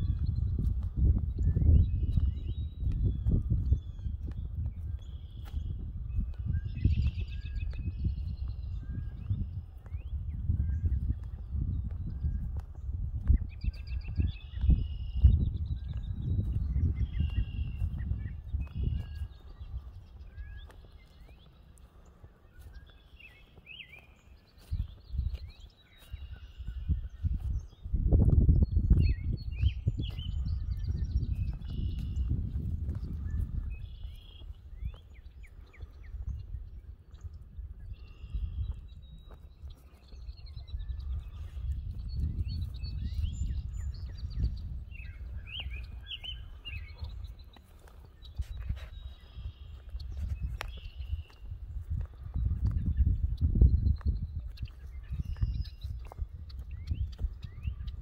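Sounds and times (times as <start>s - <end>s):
birds chirping and whistling: 0.0s - 58.0s
footsteps on grass: 0.0s - 58.0s.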